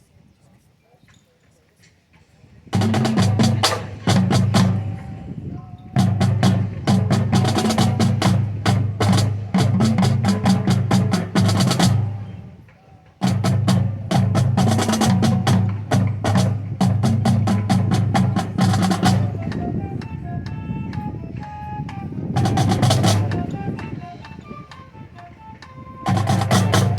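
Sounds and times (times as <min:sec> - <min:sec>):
marching drumline playing: 0:02.7 - 0:26.9.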